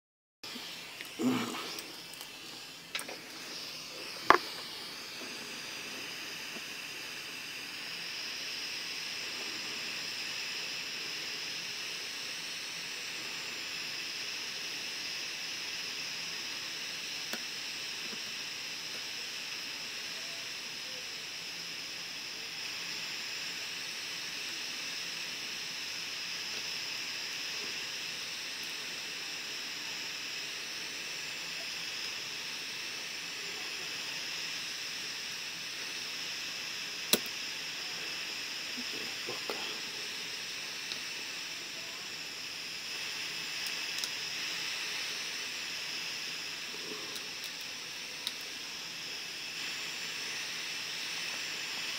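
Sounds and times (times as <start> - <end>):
hot-air station hiss: 0.4 - 51.9.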